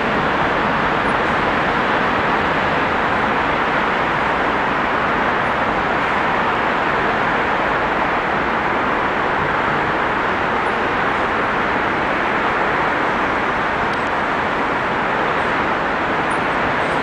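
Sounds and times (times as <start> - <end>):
city traffic roar: 0.0 - 17.0.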